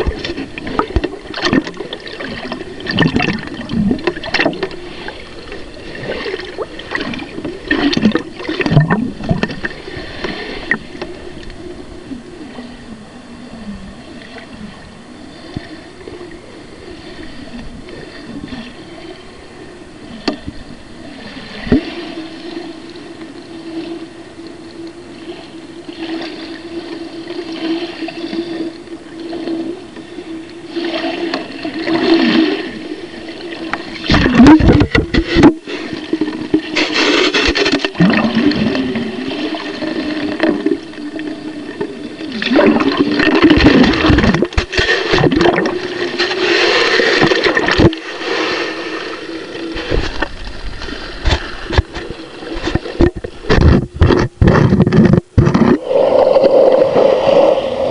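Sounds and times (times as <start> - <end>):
water sloshing and gurgling: 0.0 - 57.9.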